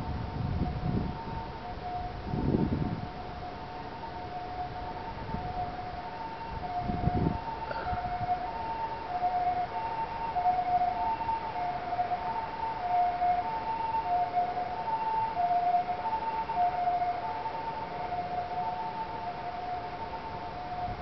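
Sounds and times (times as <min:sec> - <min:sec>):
two-tone siren: 0:00.0 - 0:21.0.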